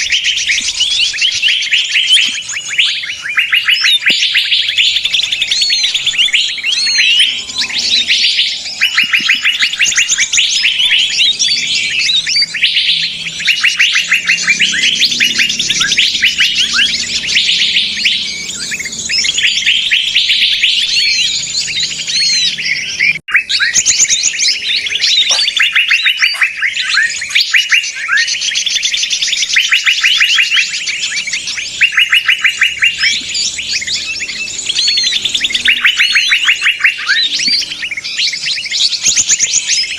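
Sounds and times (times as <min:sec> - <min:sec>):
songbirds chattering and trilling: 0:00.0 - 0:39.9.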